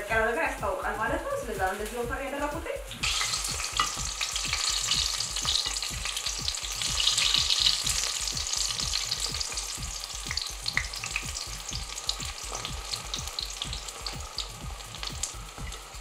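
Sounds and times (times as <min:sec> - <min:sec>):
low regular pulsing: 0:00.0 - 0:16.0
oil sizzling and crackling: 0:00.0 - 0:16.0.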